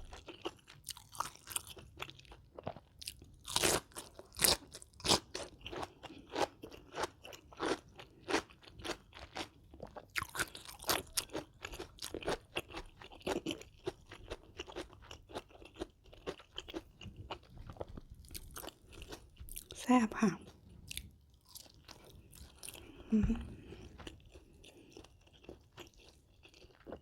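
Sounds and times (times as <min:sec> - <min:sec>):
chewing crunchy food: 0:00.0 - 0:27.0.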